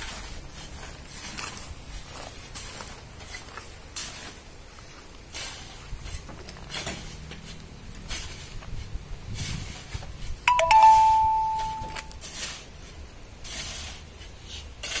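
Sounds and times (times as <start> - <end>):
shovel scraping wet sand: 0.0 - 10.4, 11.5 - 15.0.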